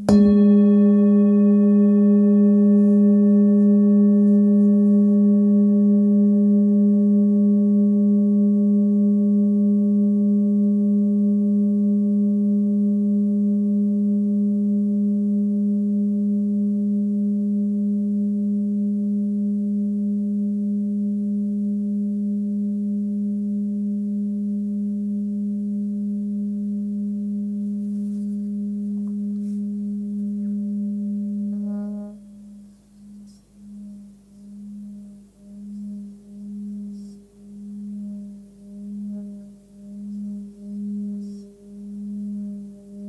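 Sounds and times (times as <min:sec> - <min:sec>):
singing bowl ringing: 0:00.0 - 0:43.0.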